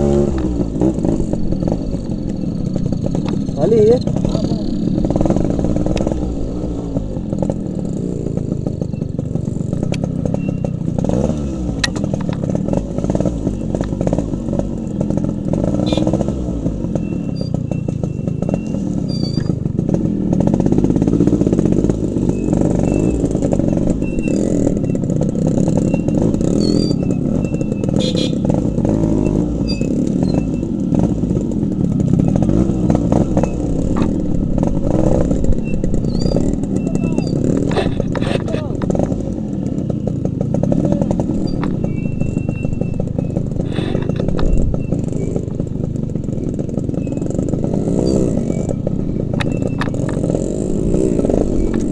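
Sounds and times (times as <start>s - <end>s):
two-stroke motorcycle engine: 0.0s - 51.9s.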